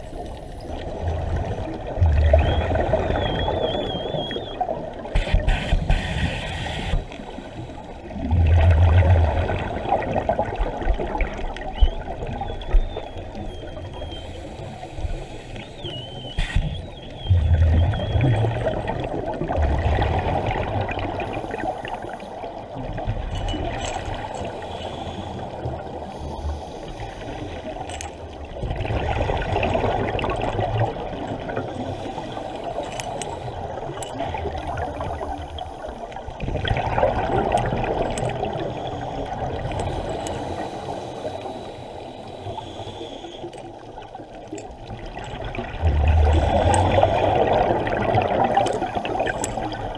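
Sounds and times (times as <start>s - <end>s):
rush of water noise: 0.0s - 49.9s
underwater bubbles gurgling: 0.0s - 49.9s.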